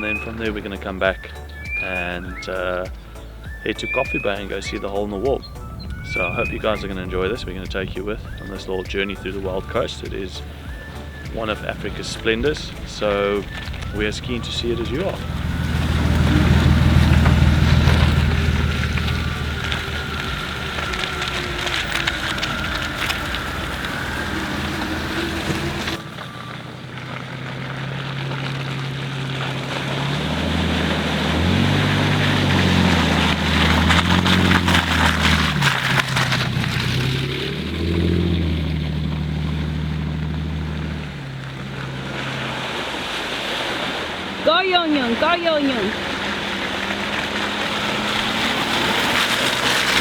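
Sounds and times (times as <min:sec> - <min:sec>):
rattling: 0:00.0 - 0:42.9, 0:45.6 - 0:50.0
road noise: 0:00.0 - 0:50.0
vehicle engine running: 0:00.0 - 0:50.0.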